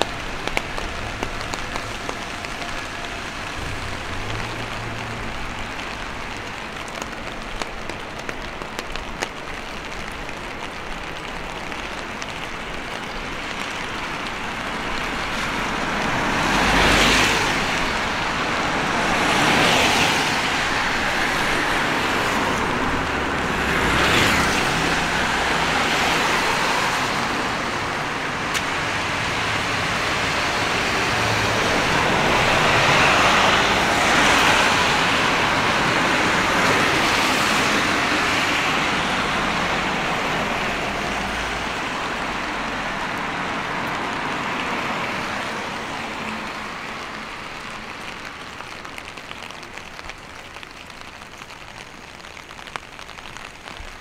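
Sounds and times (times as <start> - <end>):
car tyres hissing on wet road: 0.0 - 54.0
rain hissing: 0.0 - 54.0.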